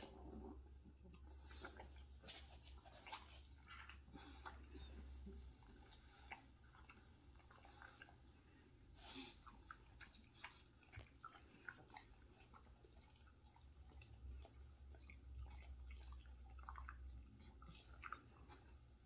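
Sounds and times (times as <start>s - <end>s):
dog chewing vegetables: 1.2s - 8.4s, 9.0s - 18.8s.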